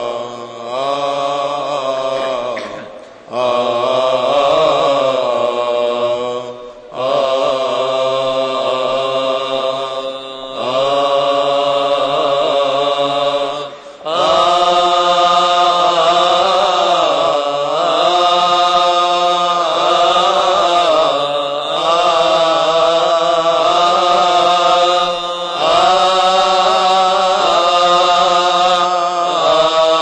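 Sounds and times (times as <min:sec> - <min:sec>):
male voices chanting: 0:00.0 - 0:30.0.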